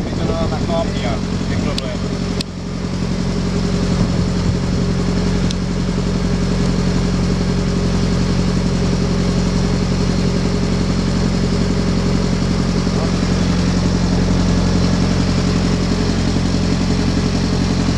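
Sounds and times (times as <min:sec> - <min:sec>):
boat engine humming: 0:00.0 - 0:17.9.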